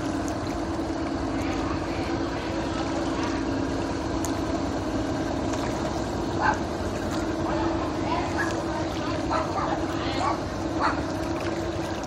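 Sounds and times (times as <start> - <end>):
small boat motor droning: 0.0 - 12.0
water noise: 0.0 - 12.0.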